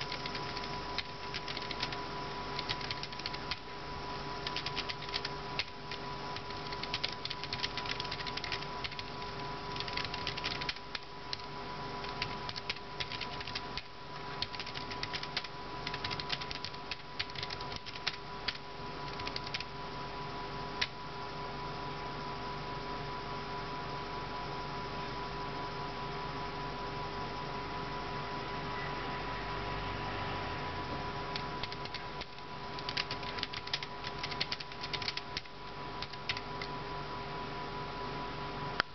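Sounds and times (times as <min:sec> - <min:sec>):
steady electrical hum: 0:00.0 - 0:38.9.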